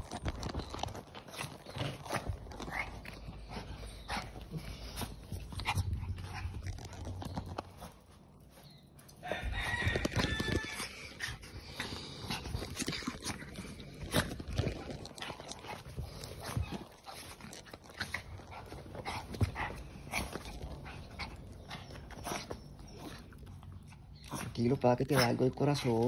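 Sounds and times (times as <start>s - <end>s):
scrabbling and rustling: 0.0s - 26.0s.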